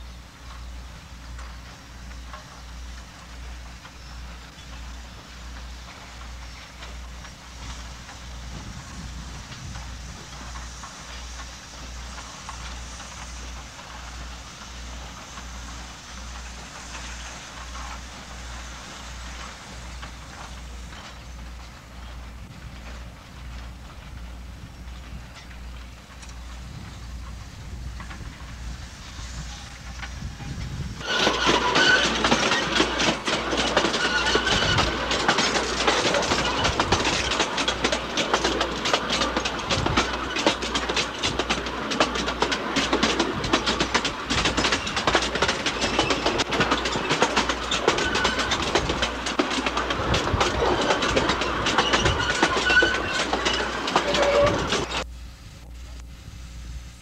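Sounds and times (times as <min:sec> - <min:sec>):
train wheels clattering on track: 0:00.0 - 0:55.1.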